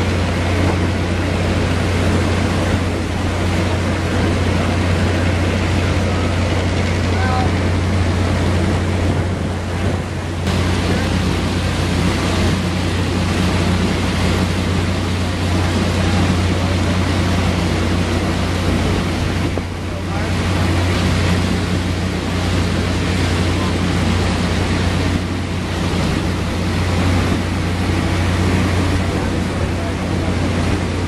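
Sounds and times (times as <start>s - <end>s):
boat engine humming: 0.0s - 31.0s
rushing water: 0.0s - 31.0s
wind on microphone: 0.0s - 31.0s.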